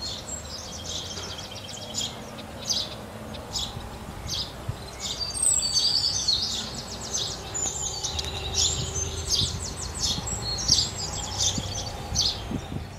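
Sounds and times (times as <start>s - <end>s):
sparrows chirping: 0.0s - 12.9s.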